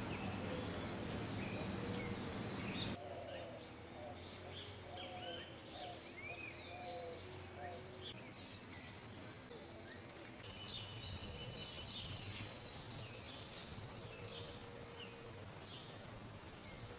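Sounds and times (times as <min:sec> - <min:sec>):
wild birds chirping: 0:00.0 - 0:16.9.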